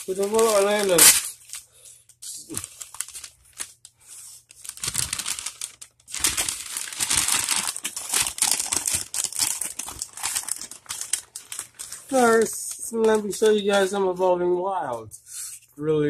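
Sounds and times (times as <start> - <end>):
crinkly packaging unwrapped: 0.0 - 14.2.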